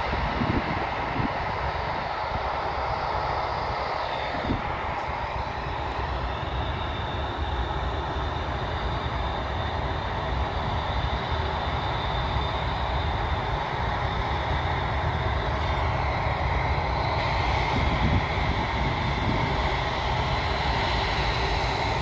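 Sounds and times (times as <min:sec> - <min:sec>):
high engine whine: 0:00.0 - 0:22.0
jet engines rumbling: 0:00.0 - 0:22.0.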